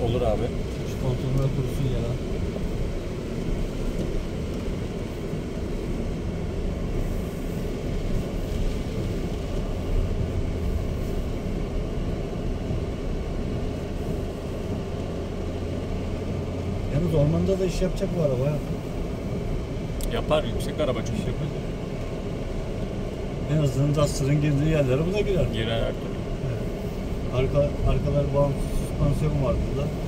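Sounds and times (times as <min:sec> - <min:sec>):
car engine hum: 0:00.0 - 0:30.0
tyre and road rumble: 0:00.0 - 0:30.0.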